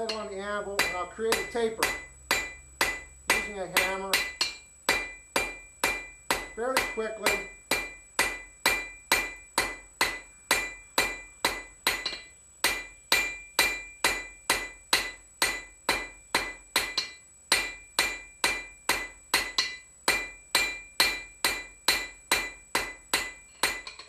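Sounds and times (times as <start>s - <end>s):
hammer striking hot metal on anvil: 0.0s - 24.0s.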